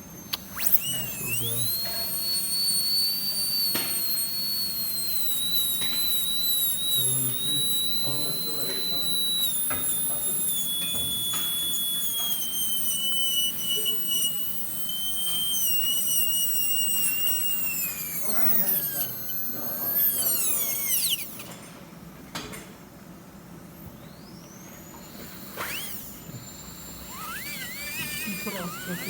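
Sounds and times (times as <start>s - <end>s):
dental drill whining: 0.0s - 21.8s, 23.7s - 29.0s.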